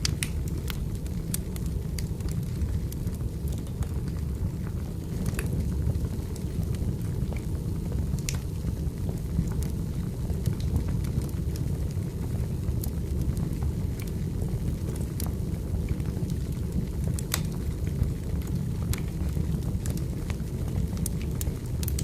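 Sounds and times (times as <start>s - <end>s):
fire crackling and popping: 0.0s - 22.0s
wood fire rumble: 0.0s - 22.0s.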